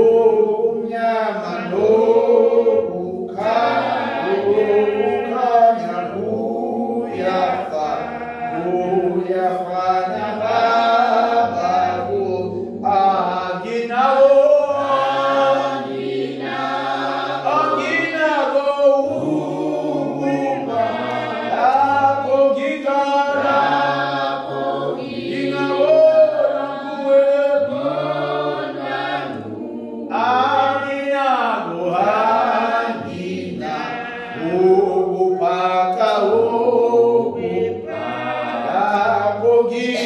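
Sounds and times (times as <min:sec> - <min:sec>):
group singing a hymn: 0:00.0 - 0:40.0.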